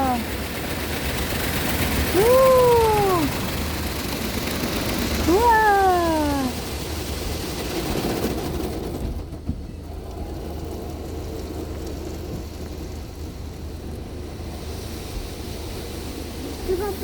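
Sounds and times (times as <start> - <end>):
low mechanical hum: 0.0 - 17.0
water spraying onto a car: 0.0 - 17.0.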